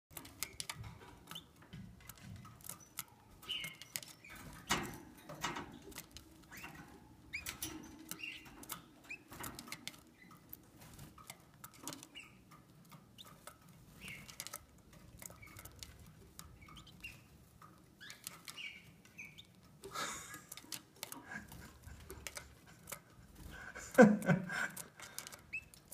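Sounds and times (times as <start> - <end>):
clicks and taps in wire cage: 0.1 - 18.6, 19.4 - 23.2, 23.9 - 25.9
canary chirping: 0.1 - 25.9.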